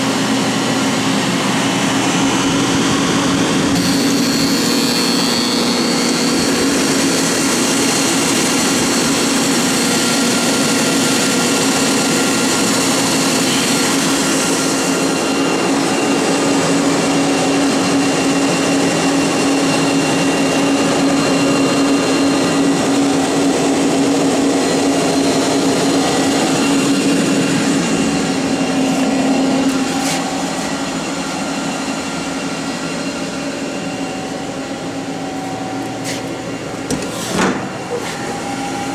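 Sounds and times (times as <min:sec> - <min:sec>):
lathe mechanical hum and whine: 0:00.0 - 0:38.9.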